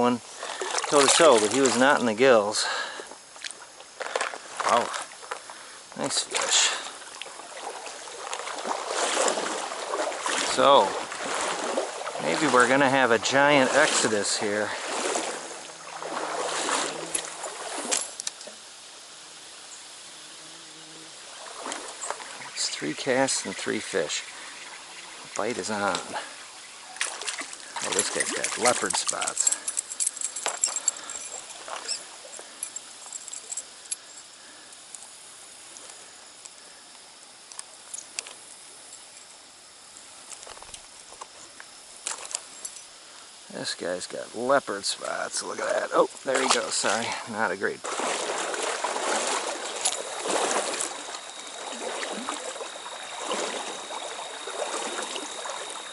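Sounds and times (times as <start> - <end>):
stream water running: 0.0 - 55.9.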